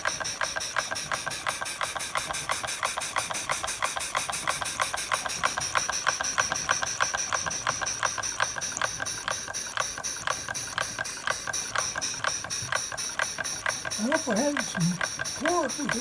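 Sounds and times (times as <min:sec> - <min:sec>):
steam engine exhaust chuffing: 0:00.0 - 0:16.0.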